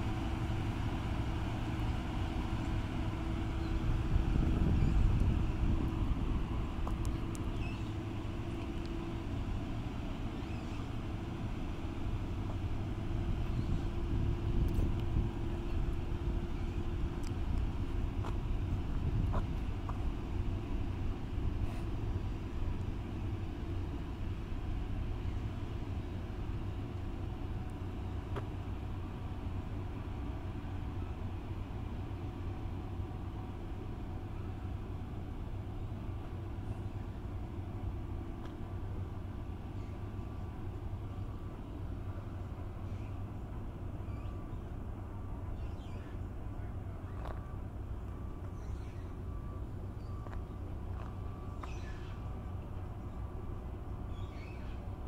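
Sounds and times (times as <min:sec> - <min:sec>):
boat diesel engines rumbling: 0:00.0 - 0:55.0.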